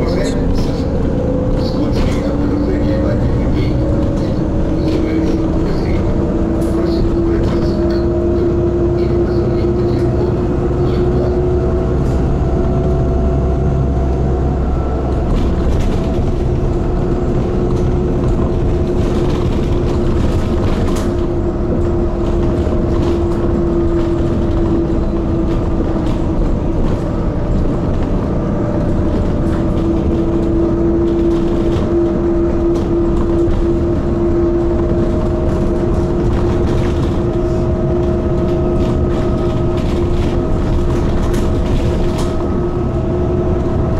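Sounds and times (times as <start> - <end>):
bus motor drone: 0.0 - 43.9
road rumble: 0.0 - 43.9.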